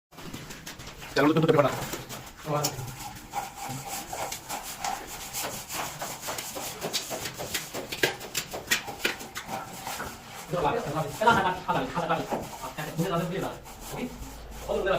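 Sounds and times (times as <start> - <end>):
scraping and rubbing strokes: 0.2 - 14.9.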